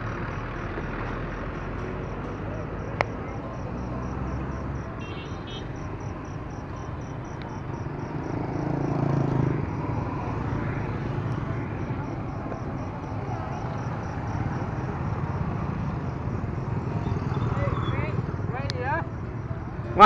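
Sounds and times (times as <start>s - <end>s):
motorbikes driving past: 0.0s - 20.0s.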